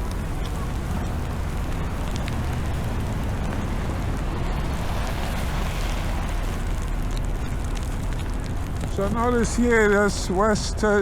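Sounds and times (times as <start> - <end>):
low hum of traffic: 0.0 - 11.0
wind rumbling on microphone: 0.0 - 11.0.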